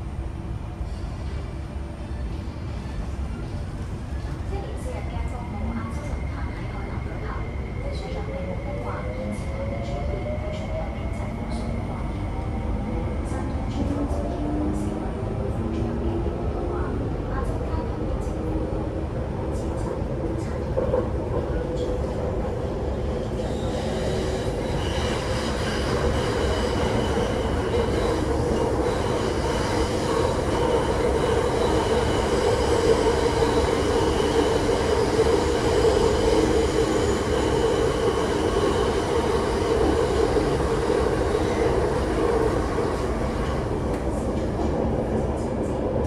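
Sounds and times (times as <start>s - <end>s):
train wheels rumbling on track: 0.0s - 46.0s.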